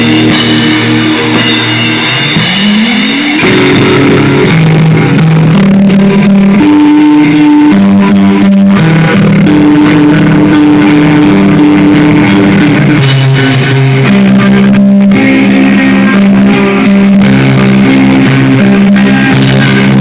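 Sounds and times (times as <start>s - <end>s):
guitar note sliding up: 0.0s - 20.0s
rock band playing: 0.0s - 20.0s.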